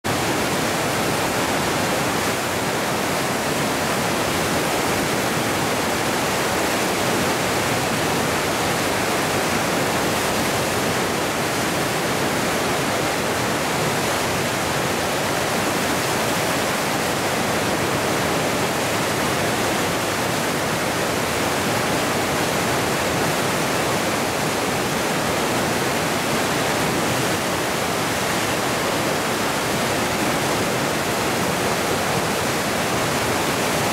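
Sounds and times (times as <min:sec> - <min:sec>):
whitewater rushing: 0:00.1 - 0:33.9.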